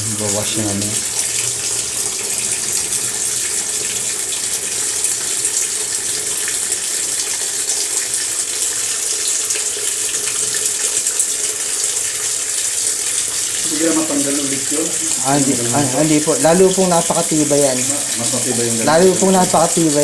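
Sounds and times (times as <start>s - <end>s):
water filling washing machine: 0.0s - 20.0s.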